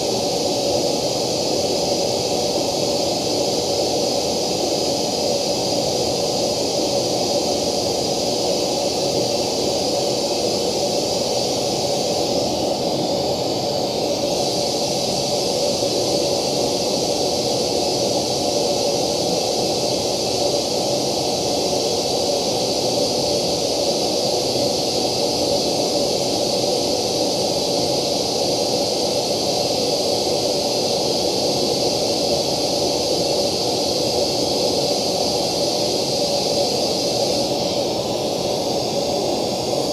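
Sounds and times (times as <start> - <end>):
hiss-like test noise: 0.0 - 39.9.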